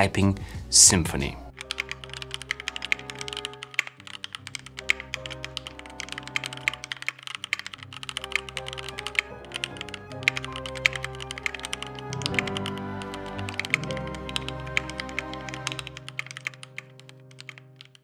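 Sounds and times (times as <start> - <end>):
mechanical keyboard typing: 1.6 - 18.0.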